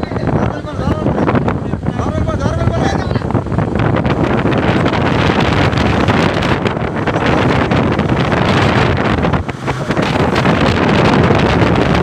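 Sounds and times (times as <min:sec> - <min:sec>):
boat rushing on choppy sea: 0:00.0 - 0:12.0
gusty wind buffeting microphone: 0:00.0 - 0:12.0.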